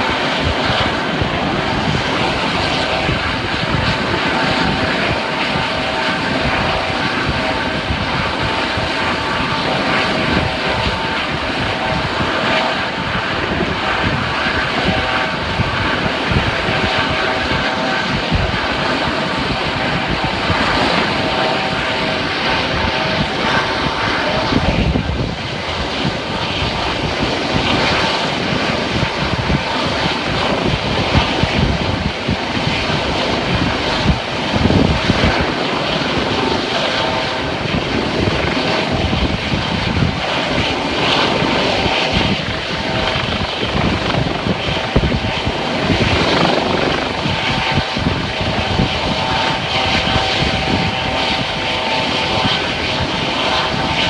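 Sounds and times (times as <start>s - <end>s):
helicopter rotor and engine: 0.0s - 54.0s
steady whine: 0.0s - 54.0s.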